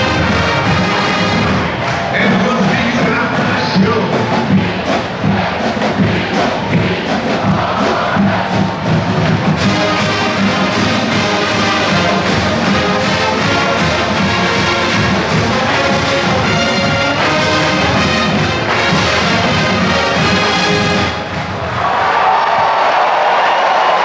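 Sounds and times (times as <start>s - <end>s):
brass chords: 0.0s - 21.7s
steady drum beat: 0.0s - 21.7s.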